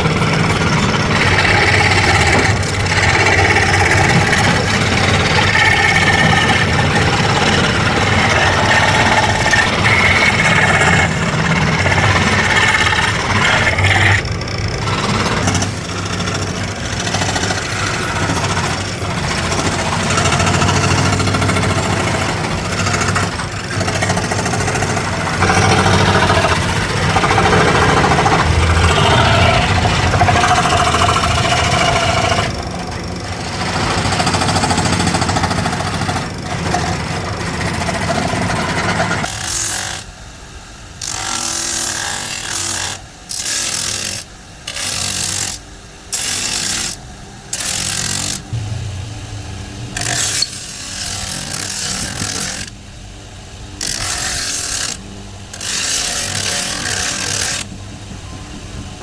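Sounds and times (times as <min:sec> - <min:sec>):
power tool cutting wood: 0:00.0 - 0:40.2, 0:41.0 - 0:52.8, 0:53.8 - 0:57.8.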